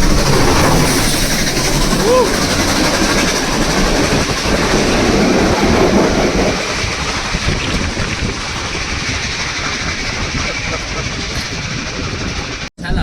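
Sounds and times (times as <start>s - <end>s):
train wheels rattling on rails: 0.0s - 13.0s.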